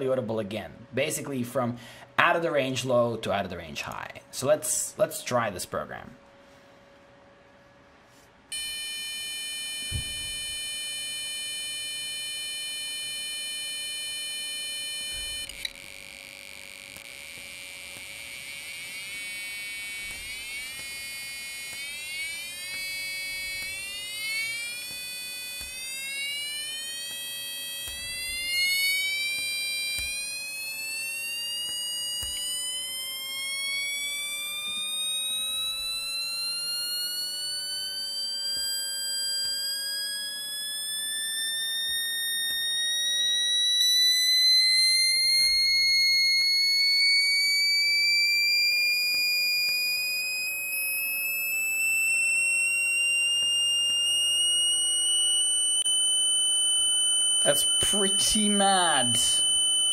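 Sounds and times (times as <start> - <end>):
piezo buzzer rising in pitch: 8.5 - 59.9.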